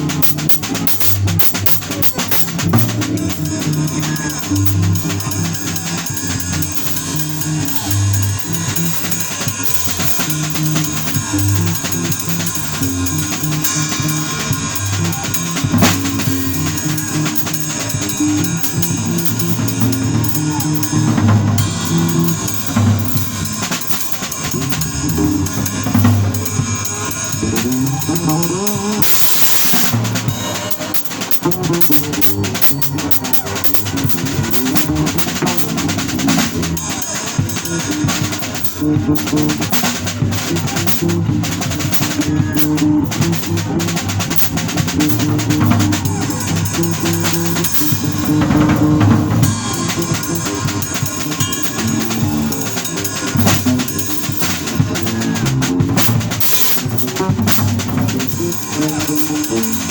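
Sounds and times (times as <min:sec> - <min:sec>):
bass guitar line: 0:00.0 - 0:29.0, 0:31.5 - 0:59.9
drum kit playing: 0:00.0 - 0:59.9.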